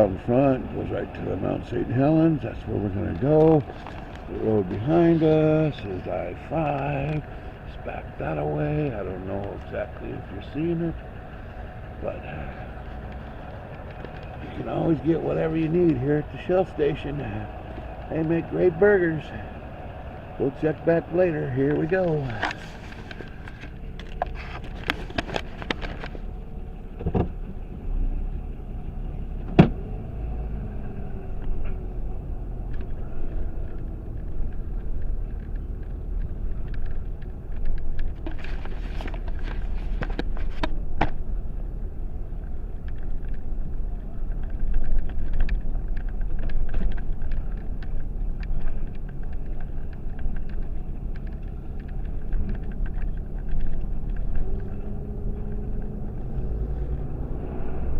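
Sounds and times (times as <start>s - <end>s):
car engine and road rumble: 0.0s - 57.9s
scattered clicks: 3.0s - 26.3s, 32.6s - 41.2s, 42.3s - 57.2s.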